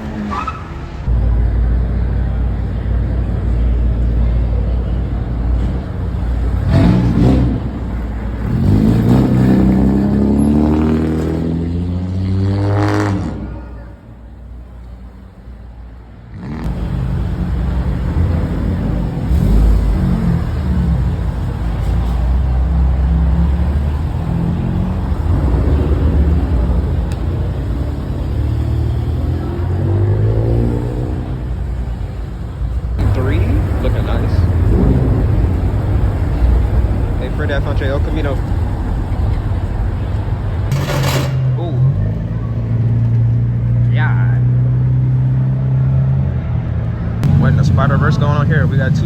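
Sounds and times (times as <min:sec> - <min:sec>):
car engines revving: 0:00.0 - 0:49.0
low rumble of engines: 0:00.0 - 0:49.0.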